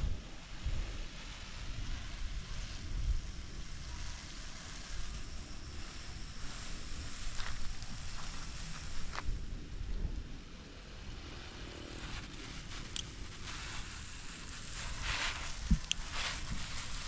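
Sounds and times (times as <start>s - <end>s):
hose spraying water on plants: 0.0s - 17.0s.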